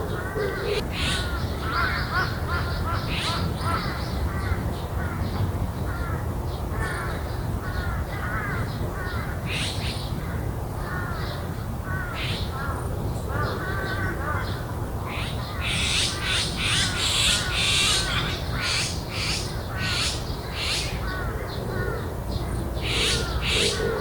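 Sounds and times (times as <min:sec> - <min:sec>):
higher bird calls: 0:00.0 - 0:24.0.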